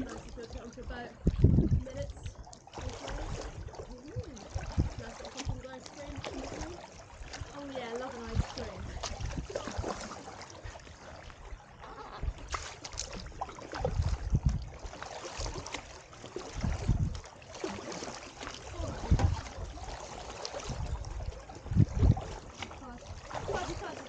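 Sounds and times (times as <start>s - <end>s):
paddle splashing and dripping: 0.0s - 24.0s
water lapping at hull: 0.0s - 24.0s.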